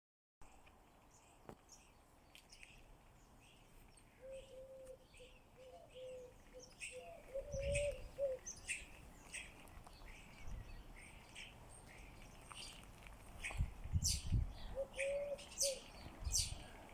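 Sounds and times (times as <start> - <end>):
birds chirping: 0.9 - 16.9.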